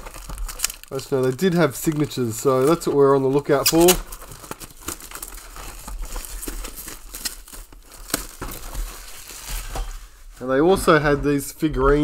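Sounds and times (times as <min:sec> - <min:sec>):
plastic wrappers crinkling and tearing: 0:00.0 - 0:10.4.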